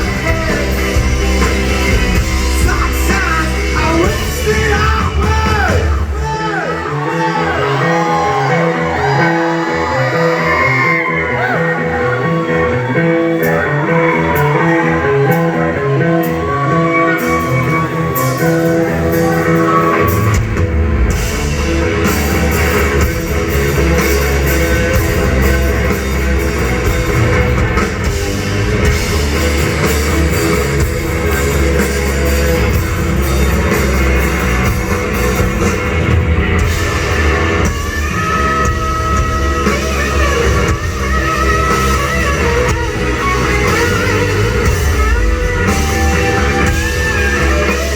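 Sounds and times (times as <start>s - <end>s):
heavy bass and drums: 0.0s - 9.7s, 14.2s - 47.9s
electric guitar: 0.0s - 47.9s.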